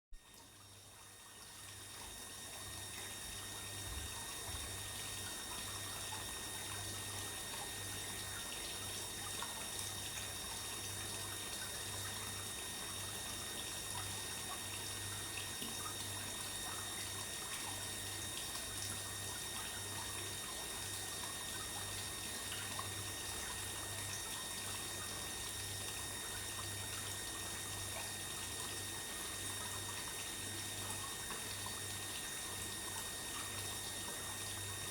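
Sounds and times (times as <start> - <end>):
faint pulsing low hum: 0.1 - 34.9
water trickling into a pond: 0.2 - 34.9.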